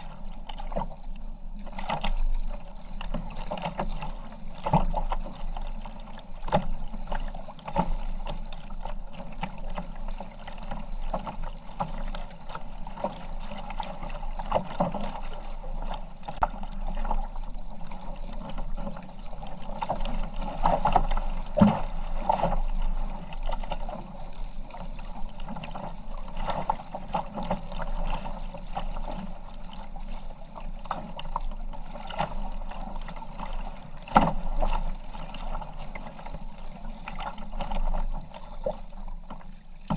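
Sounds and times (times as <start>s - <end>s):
paddle strokes splashing water: 0.0s - 39.9s
water lapping around hull: 0.0s - 39.9s.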